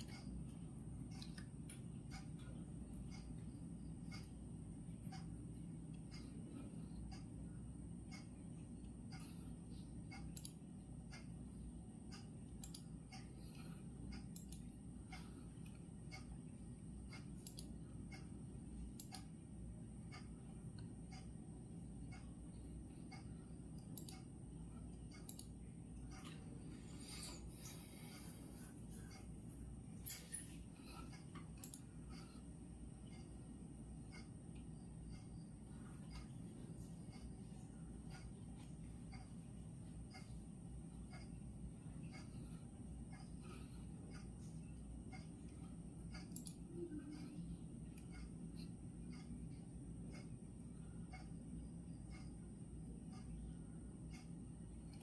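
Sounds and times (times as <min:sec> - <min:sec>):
clock ticking: 0:00.0 - 0:55.0
low hum: 0:00.0 - 0:55.0.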